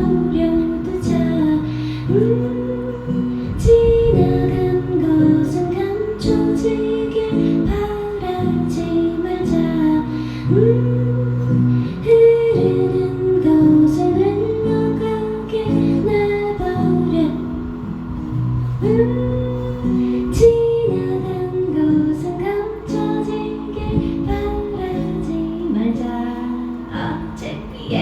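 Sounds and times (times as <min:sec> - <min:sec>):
strummed acoustic guitar: 0:00.0 - 0:28.0
woman singing long notes: 0:00.0 - 0:28.0.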